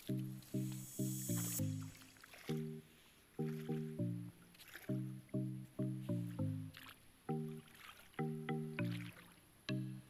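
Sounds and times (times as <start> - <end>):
simple melody of short notes: 0.0 - 10.0.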